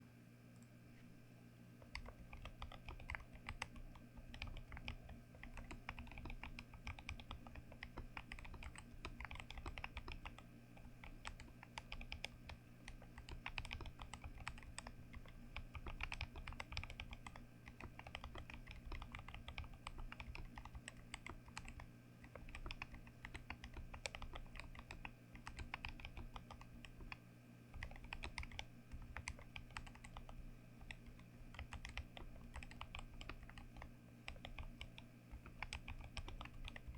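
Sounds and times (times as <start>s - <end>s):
fast typing on mechanical keyboard: 1.8s - 27.2s, 27.8s - 36.9s.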